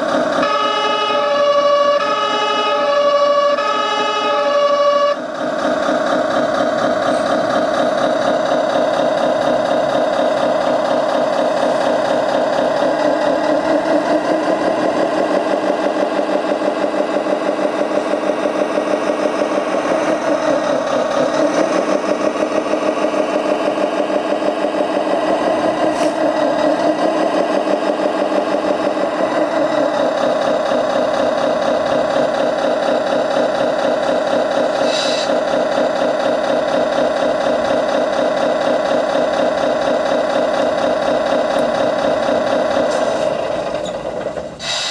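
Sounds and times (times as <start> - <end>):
simulated diesel engine idling: 0.0 - 44.9.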